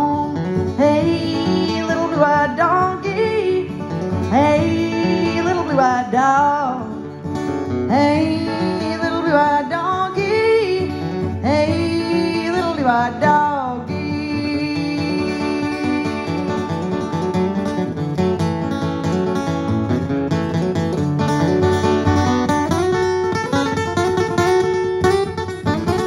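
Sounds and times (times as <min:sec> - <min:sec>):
strummed acoustic guitar: 0:00.0 - 0:26.0
woman singing country song: 0:00.0 - 0:26.0.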